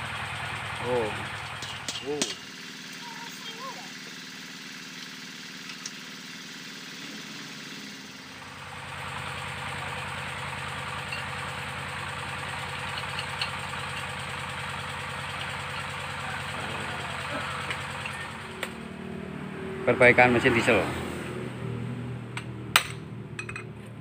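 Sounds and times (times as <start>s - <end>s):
diesel engine idling: 0.0s - 23.6s.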